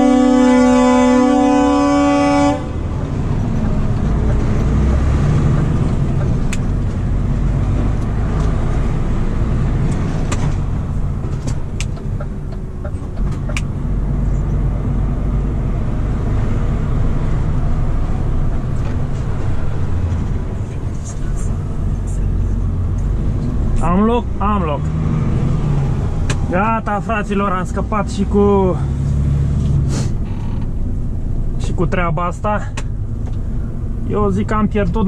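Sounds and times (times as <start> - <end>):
truck engine rumble: 0.0 - 35.0.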